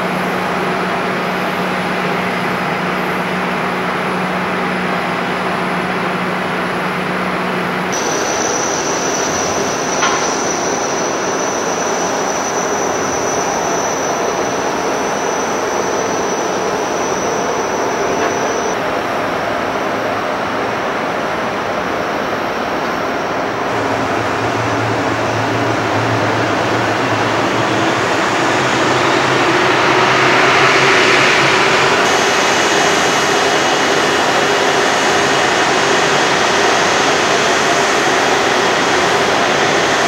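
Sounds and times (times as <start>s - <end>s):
high jet whine: 0.0s - 40.0s
jet engine roar: 0.0s - 40.0s.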